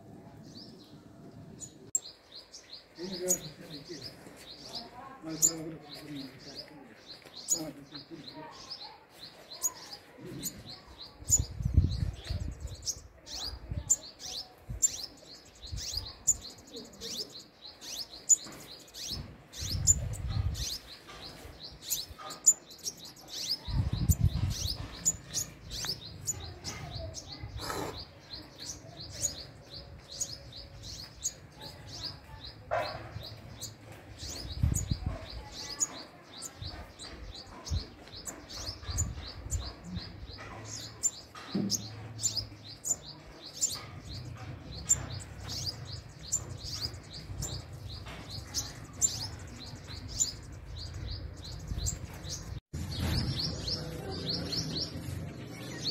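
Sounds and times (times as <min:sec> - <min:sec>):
sunbird chirping: 0:00.0 - 0:55.9.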